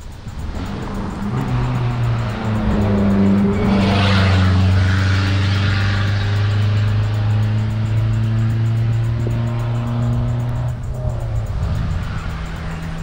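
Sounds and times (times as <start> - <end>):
background music with low held notes: 0.0 - 13.0
rush of noise: 0.0 - 13.0.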